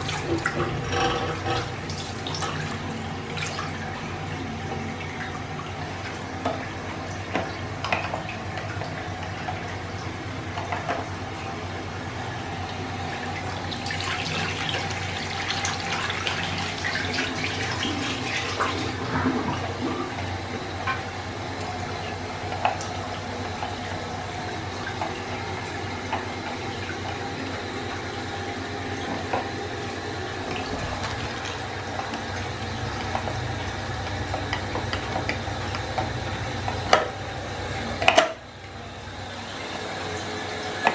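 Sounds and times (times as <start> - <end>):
water running: 0.0 - 40.9.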